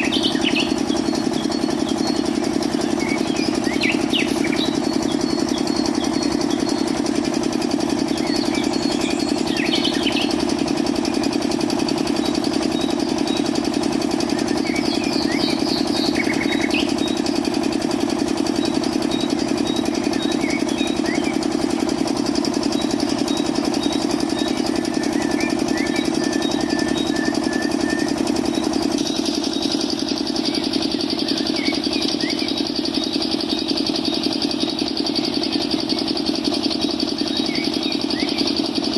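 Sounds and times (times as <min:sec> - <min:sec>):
small motor humming: 0:00.0 - 0:38.9.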